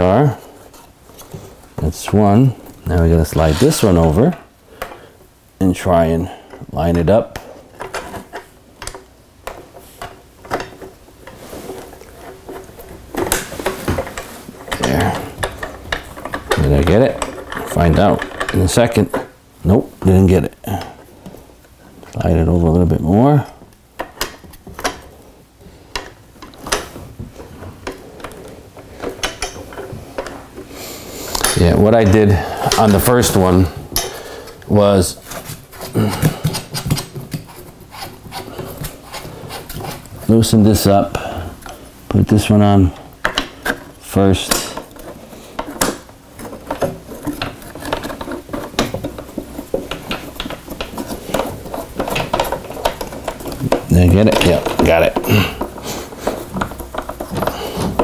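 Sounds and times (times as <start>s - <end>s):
parts clicking and clinking: 6.4s - 25.2s, 25.8s - 58.0s.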